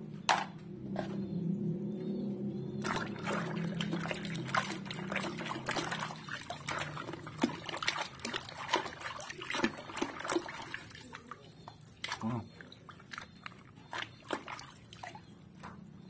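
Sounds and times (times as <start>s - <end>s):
water dripping: 2.8s - 16.0s
water splashing in a basin: 2.8s - 16.0s.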